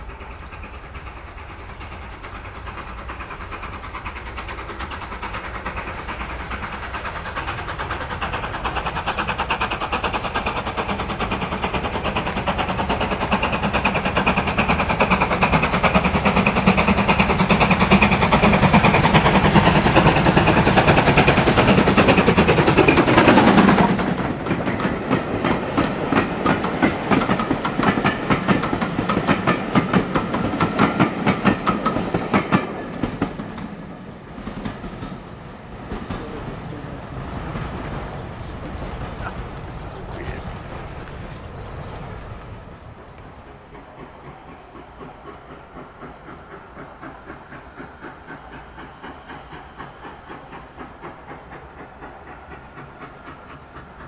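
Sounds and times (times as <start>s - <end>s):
steam locomotive exhaust beats: 0.0s - 54.0s
carriage wheels clickety-clack: 0.1s - 33.8s, 34.5s - 54.0s.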